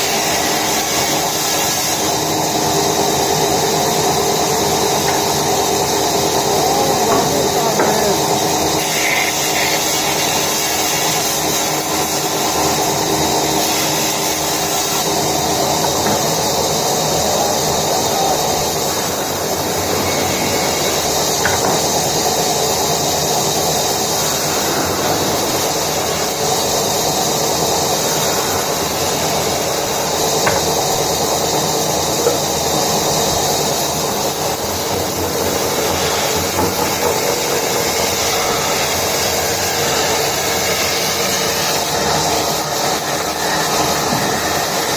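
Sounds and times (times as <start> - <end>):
hiss of wood being worked: 0.0 - 44.9
woodworking machine motor hum: 0.0 - 44.9.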